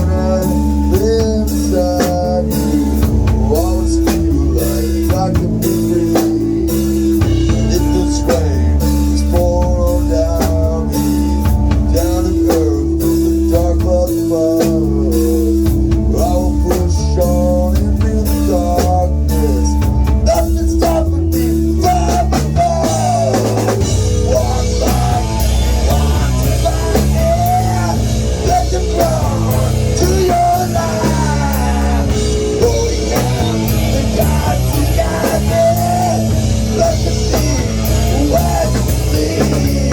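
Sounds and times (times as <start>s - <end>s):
rock music with vocals: 0.0s - 39.9s.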